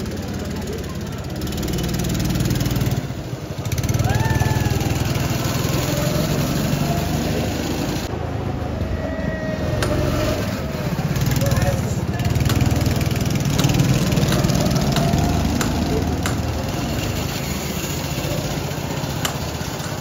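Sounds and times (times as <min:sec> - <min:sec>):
go-kart engines droning: 0:00.0 - 0:20.0.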